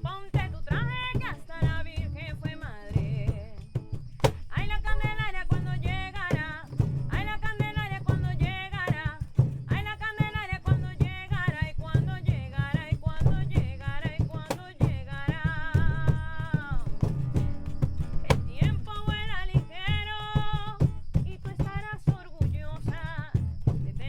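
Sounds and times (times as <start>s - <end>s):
instrumental accompaniment with drums: 0.0s - 24.0s.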